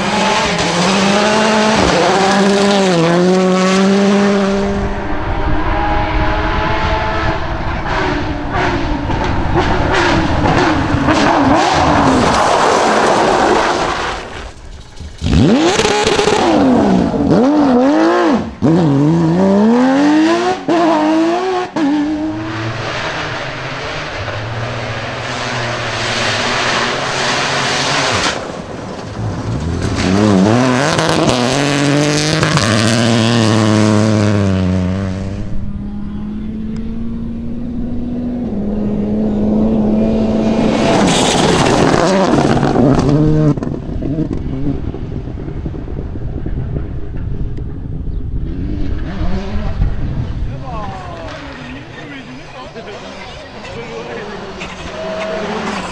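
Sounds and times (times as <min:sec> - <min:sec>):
distant engine: 0:00.0 - 0:55.9
rally car engine revving: 0:00.0 - 0:55.9
rally cars accelerating hard: 0:00.0 - 0:55.9.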